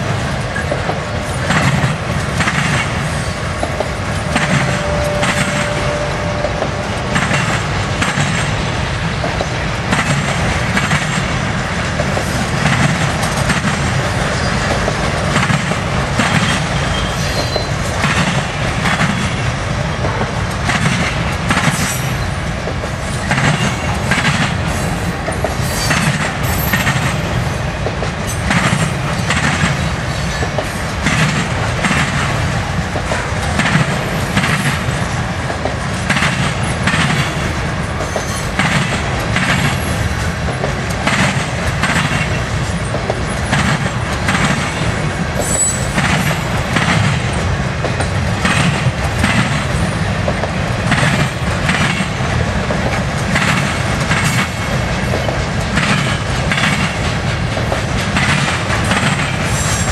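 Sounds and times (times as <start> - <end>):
freight train rumbling: 0.0 - 59.9
wheels clickety-clack: 0.0 - 59.9.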